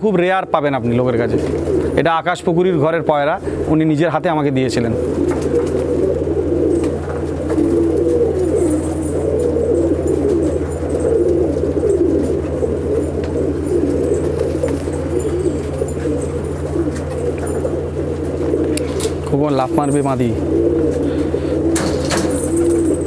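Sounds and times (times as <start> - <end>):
pigeons cooing: 0.0 - 23.0
steady low hum: 0.0 - 23.0.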